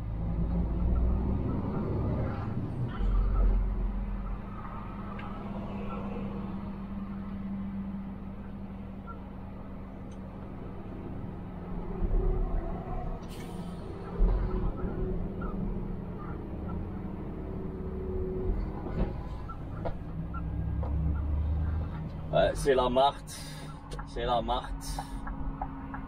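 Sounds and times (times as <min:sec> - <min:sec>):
truck engine and road hum: 0:00.0 - 0:26.0.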